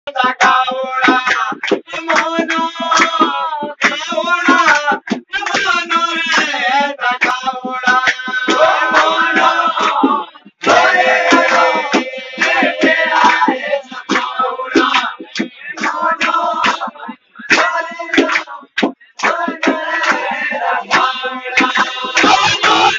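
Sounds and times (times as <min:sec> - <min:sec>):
person singing: 0:00.1 - 0:22.9
steady drum beat: 0:00.1 - 0:22.9.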